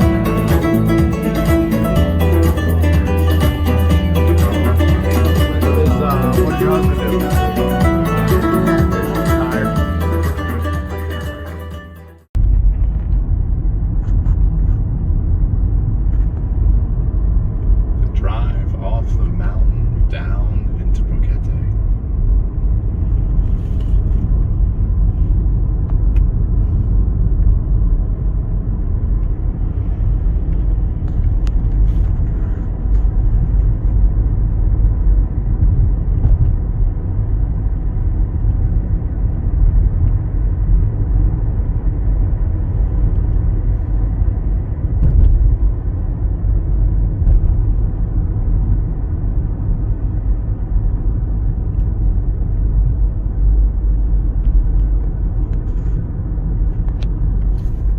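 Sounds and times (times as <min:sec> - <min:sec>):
car driving on road: 0:00.0 - 0:57.9.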